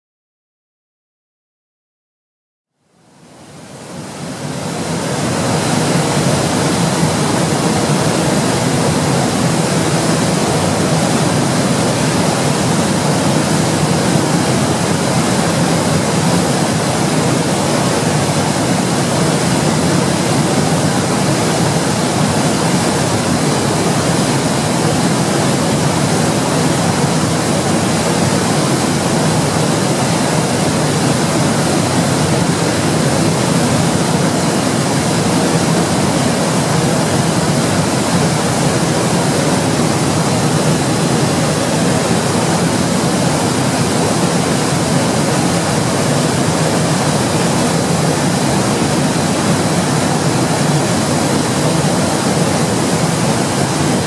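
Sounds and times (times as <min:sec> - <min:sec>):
waterfall rushing: 0:03.4 - 0:54.0.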